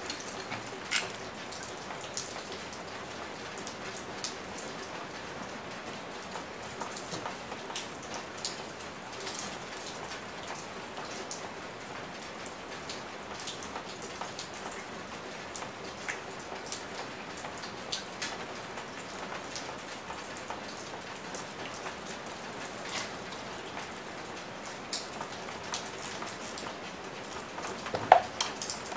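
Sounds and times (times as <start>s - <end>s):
rain patter: 0.0s - 28.9s.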